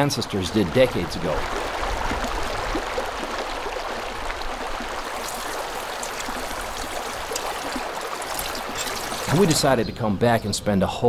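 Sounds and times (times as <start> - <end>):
stream rushing over stones: 0.3 - 9.8.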